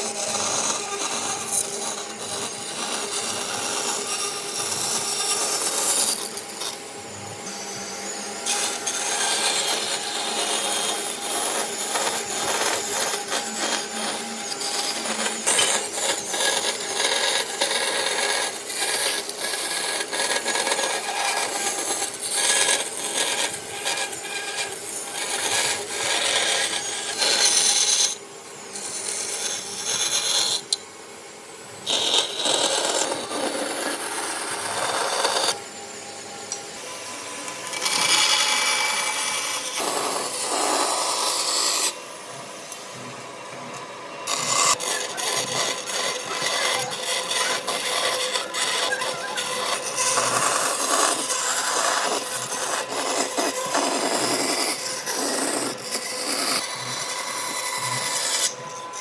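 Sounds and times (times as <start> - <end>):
hand tool rasping wood: 0.0 - 28.2, 28.8 - 30.8, 31.8 - 35.6, 37.0 - 42.0, 42.7 - 59.0.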